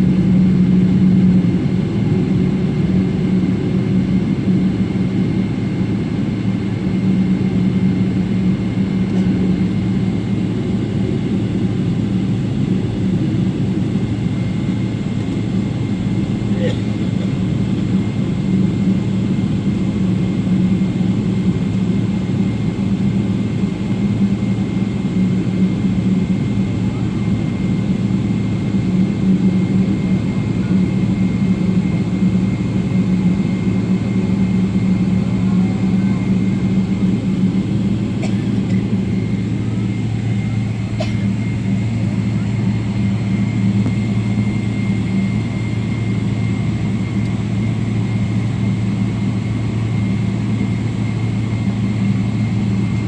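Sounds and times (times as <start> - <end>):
jet engines running at low power: 0.0 - 53.0.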